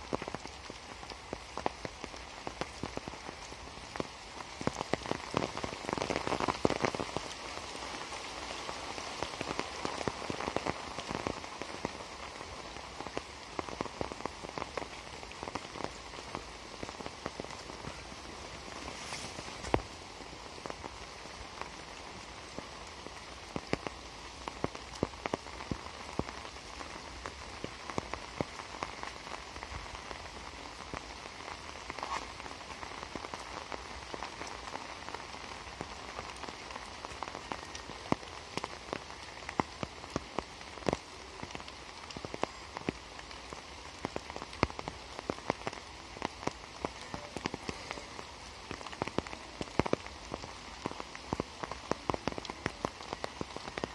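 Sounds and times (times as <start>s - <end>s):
heavy raindrops tapping: 0.0s - 53.9s
rain hissing: 0.0s - 53.9s.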